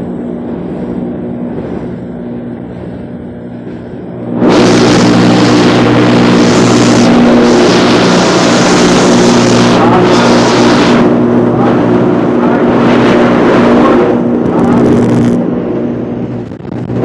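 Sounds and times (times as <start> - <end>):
construction hoist mechanical drone: 0.0 - 17.0.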